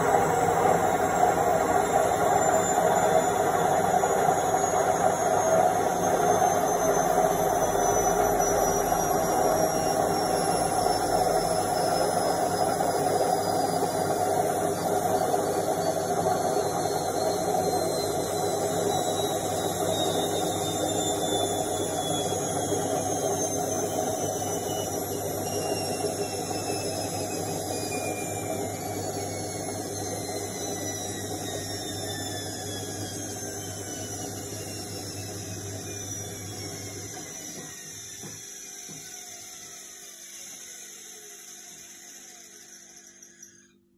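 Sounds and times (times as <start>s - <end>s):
washing machine motor whine: 0.0s - 43.9s.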